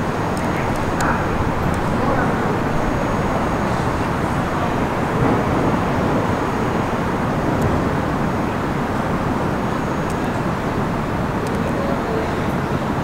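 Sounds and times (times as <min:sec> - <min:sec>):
subway train pulling away: 0:00.0 - 0:13.0.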